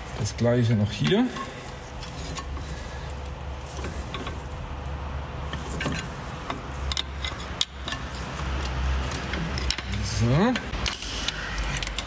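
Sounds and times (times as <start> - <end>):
low steady hum: 0.0 - 12.0
hand tools clicking and scraping metal: 0.9 - 4.6, 5.4 - 12.0.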